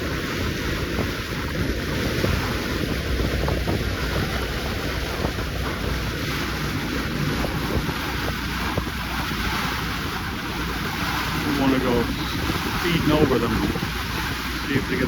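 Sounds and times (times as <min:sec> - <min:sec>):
outboard engines running: 0:00.0 - 0:15.0
water washing along hull: 0:00.0 - 0:15.0
wind noise: 0:00.0 - 0:15.0.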